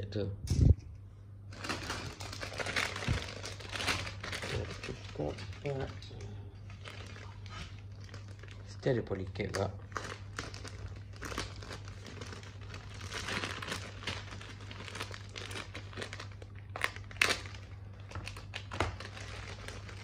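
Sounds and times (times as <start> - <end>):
plastic bag crinkling: 1.5 - 20.0.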